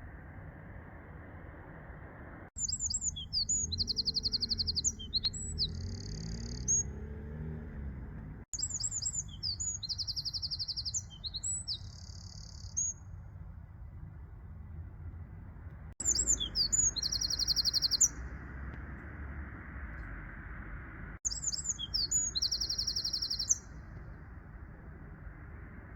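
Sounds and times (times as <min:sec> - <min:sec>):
low background rumble: 0:00.0 - 0:05.9, 0:07.8 - 0:25.9
songbird singing: 0:02.6 - 0:14.5, 0:16.0 - 0:25.9.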